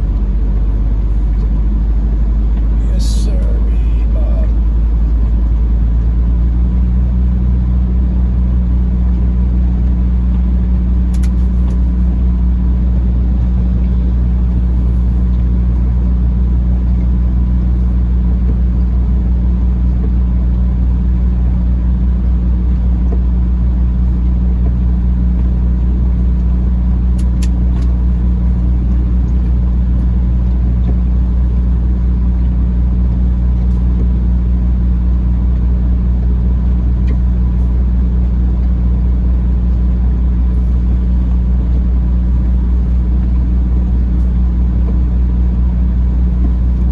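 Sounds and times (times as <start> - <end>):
diesel truck engine idling: 0.0 - 46.9.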